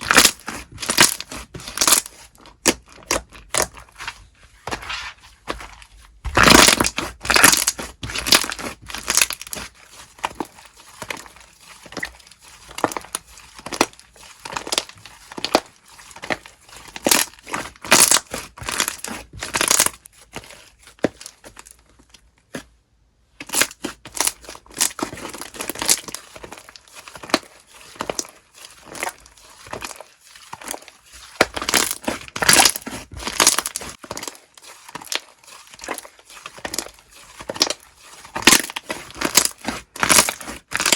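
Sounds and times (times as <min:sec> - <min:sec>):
slime squished crackling and popping: 0:00.0 - 0:04.1, 0:06.3 - 0:20.0, 0:23.4 - 0:40.9.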